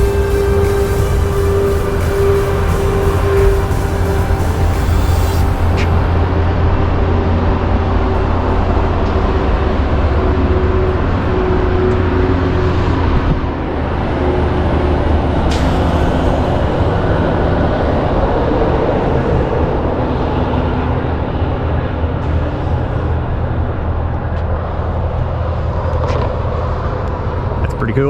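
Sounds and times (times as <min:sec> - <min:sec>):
car engine hum: 0:00.0 - 0:28.0
tyre road noise: 0:00.0 - 0:28.0
wind rush: 0:00.0 - 0:28.0.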